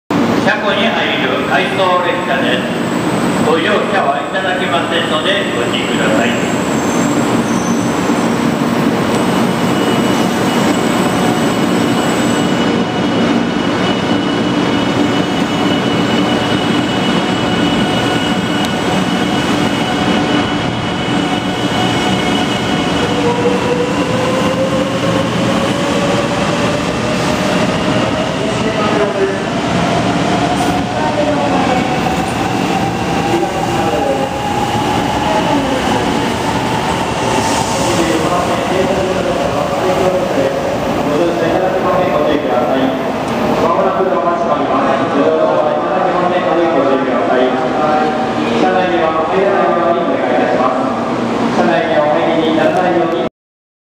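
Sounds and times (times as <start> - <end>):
train running noise: 1.1 - 53.3.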